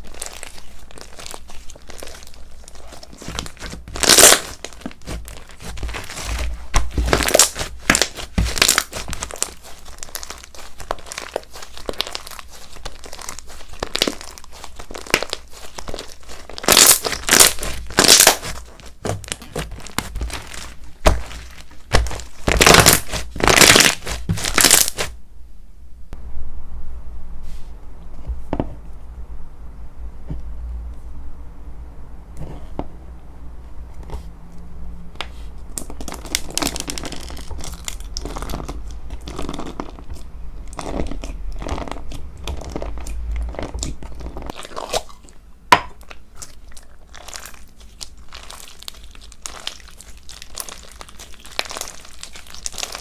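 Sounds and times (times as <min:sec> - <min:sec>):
slime crackling and popping: 0:00.0 - 0:25.2, 0:35.7 - 0:53.0.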